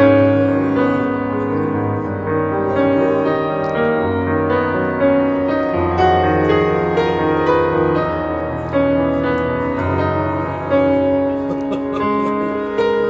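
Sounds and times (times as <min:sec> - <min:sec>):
piano music with held chords: 0:00.0 - 0:13.0.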